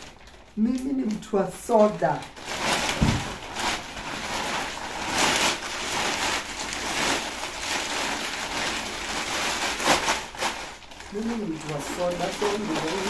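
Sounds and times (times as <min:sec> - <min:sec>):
plastic packaging rustling: 0:00.0 - 0:13.0.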